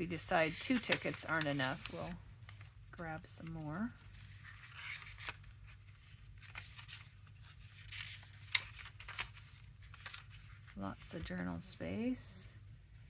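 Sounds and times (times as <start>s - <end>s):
paper rustling and sliding: 0.2s - 2.8s, 3.5s - 11.7s.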